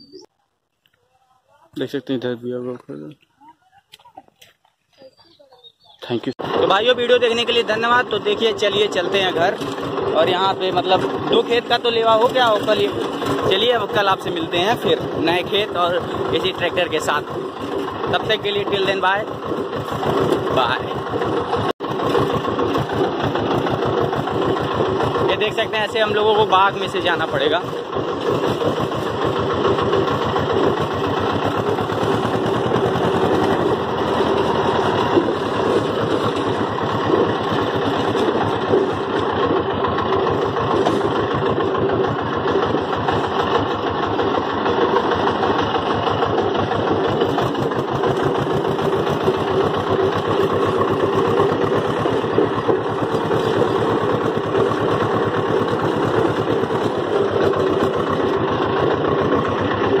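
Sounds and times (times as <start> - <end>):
tractor diesel engine running: 5.0 - 60.0.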